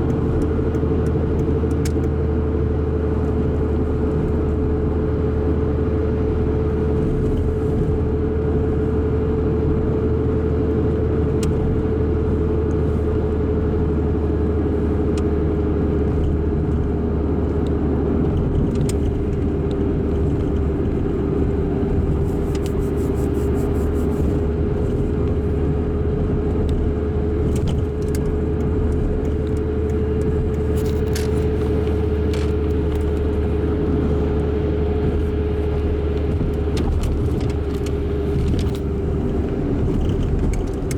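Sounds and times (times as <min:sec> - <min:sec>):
car engine running at high revs: 0:00.0 - 0:40.9.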